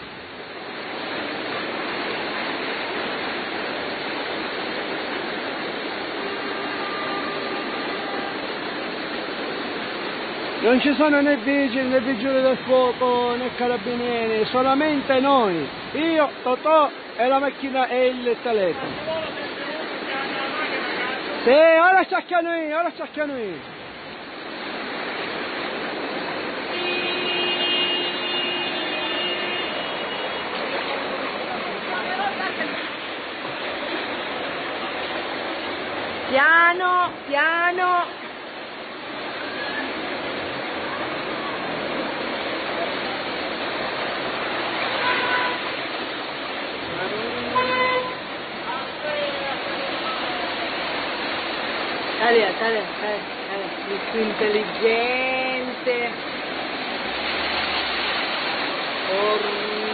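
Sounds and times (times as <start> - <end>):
floodwater rushing: 0.0 - 59.9
rain: 0.0 - 59.9.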